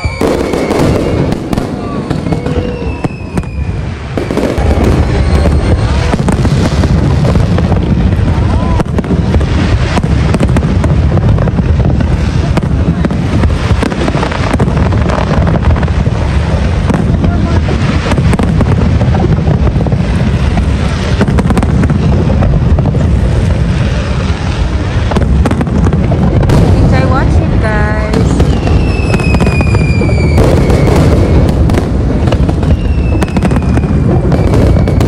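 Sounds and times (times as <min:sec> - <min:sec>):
deep rumble: 0:00.0 - 0:35.0
fireworks cracking and banging: 0:00.0 - 0:35.0.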